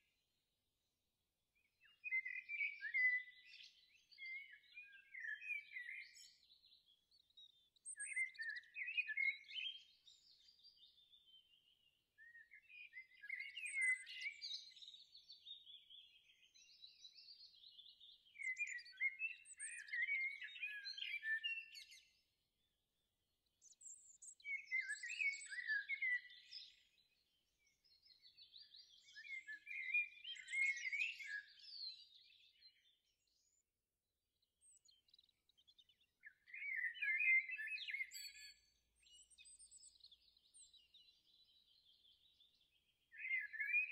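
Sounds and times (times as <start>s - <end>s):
songbird singing: 1.6s - 22.4s, 23.7s - 43.9s.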